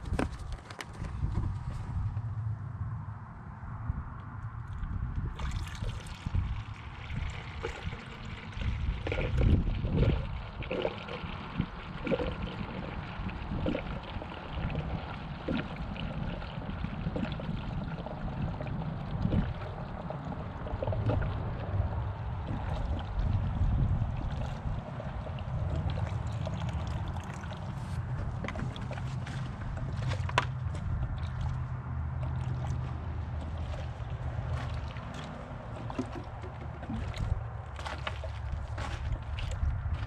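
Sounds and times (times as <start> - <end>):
liquid pouring into a funnel: 4.7 - 31.6, 32.2 - 39.7.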